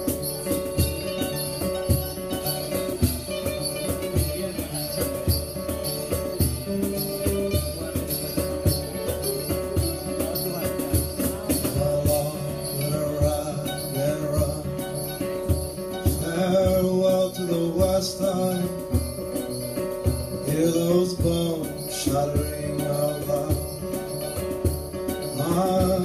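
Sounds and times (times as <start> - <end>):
percussion keeping a beat: 0.0 - 26.0
strummed acoustic guitars: 0.0 - 26.0.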